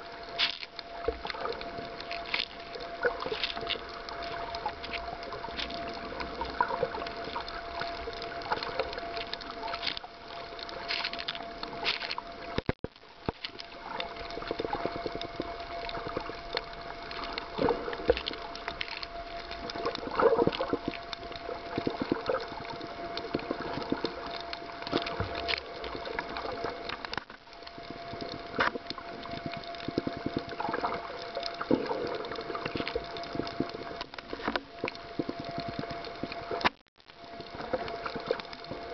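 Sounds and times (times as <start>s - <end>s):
faint hum: 0.0s - 38.9s
underwater crackle: 0.0s - 38.9s.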